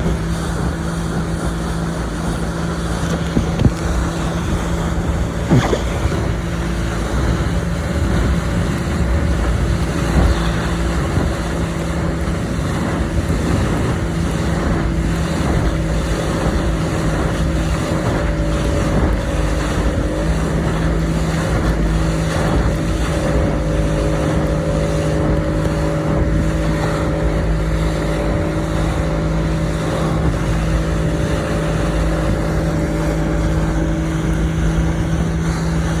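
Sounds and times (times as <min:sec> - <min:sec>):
motorboat engine humming: 0:00.0 - 0:36.0
wind and water rushing: 0:00.0 - 0:36.0.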